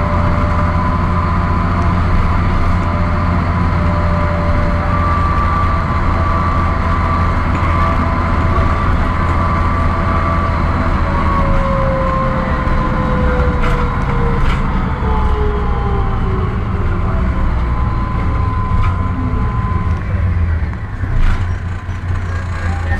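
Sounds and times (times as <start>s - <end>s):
bus engine rumble: 0.0s - 22.9s.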